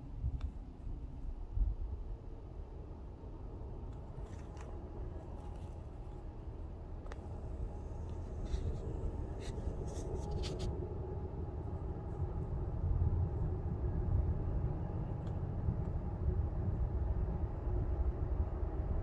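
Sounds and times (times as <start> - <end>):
distant freight train rumble: 1.0 - 19.0.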